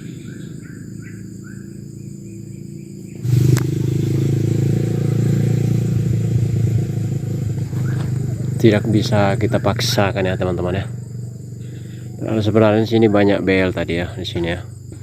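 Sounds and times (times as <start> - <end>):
low hum: 0.0 - 15.0
motorcycle engine running: 0.0 - 15.0
repeated bird notes: 0.0 - 15.0.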